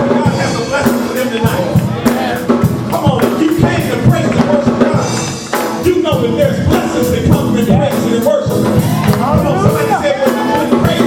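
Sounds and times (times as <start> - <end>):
drum kit beat: 0.0 - 11.0
people singing gospel: 0.4 - 11.0.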